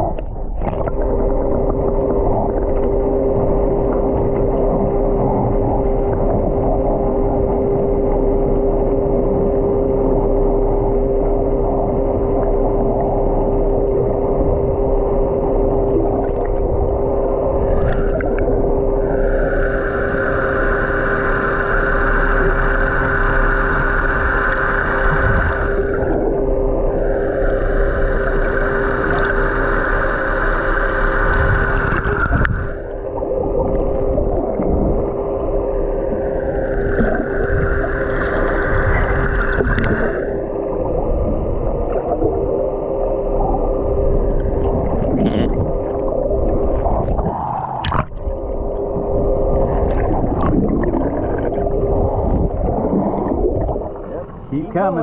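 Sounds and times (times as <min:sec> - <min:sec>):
heavy wind: 0:00.0 - 0:21.8, 0:31.1 - 0:55.0
boat engine humming: 0:00.0 - 0:55.0
water noise: 0:00.0 - 0:55.0.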